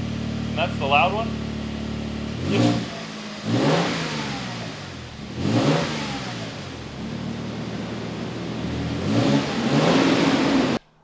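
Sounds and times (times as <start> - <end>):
truck engine revving from idle: 0.0 - 10.8.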